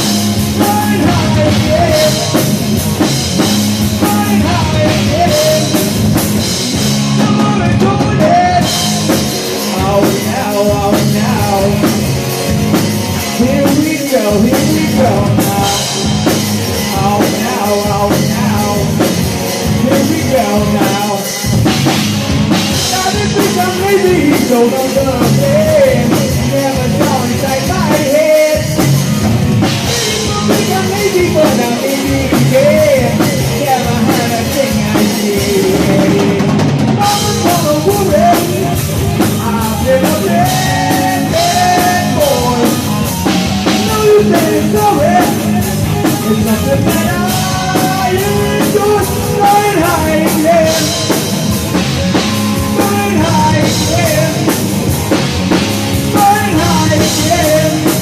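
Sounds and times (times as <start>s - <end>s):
bending lead guitar line: 0.0s - 58.0s
drum kit: 0.0s - 58.0s
hard rock band playing live: 0.0s - 58.0s.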